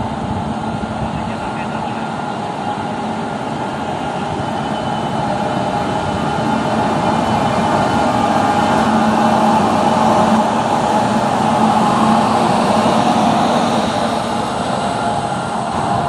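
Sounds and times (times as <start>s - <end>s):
electric locomotive hum: 0.0s - 16.0s
train wheels on rails: 0.0s - 16.0s.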